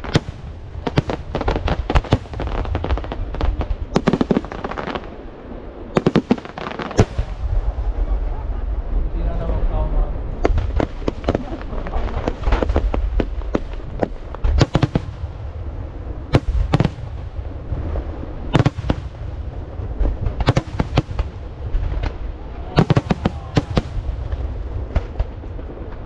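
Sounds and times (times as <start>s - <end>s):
fireworks bangs: 0.0s - 8.4s, 10.3s - 26.0s
continuous low rumble: 0.0s - 26.0s.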